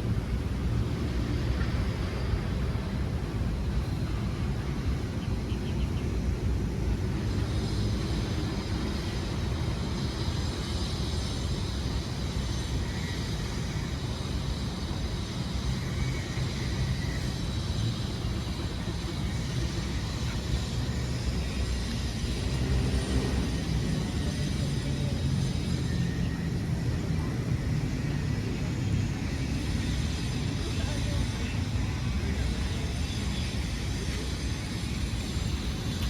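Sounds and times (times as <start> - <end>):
faint high whine: 0.0 - 36.0.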